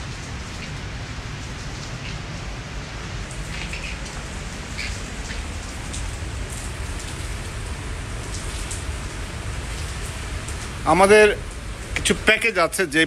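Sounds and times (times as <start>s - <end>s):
rain falling on veranda: 0.0s - 13.0s.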